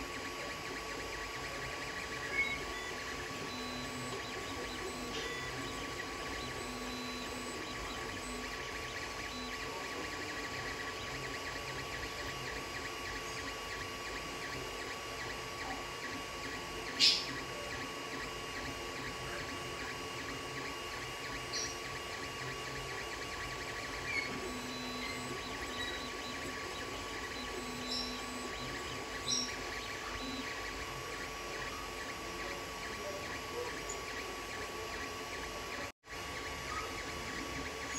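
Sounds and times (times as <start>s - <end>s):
cooling fans humming: 0.0s - 37.9s
stepper motors whirring: 0.0s - 37.9s.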